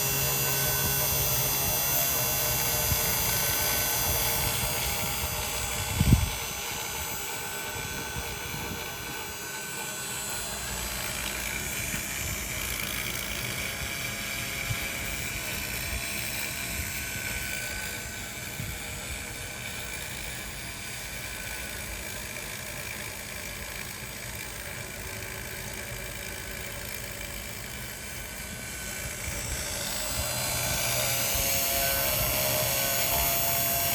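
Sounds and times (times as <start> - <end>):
router spindle whine: 0.0 - 33.9.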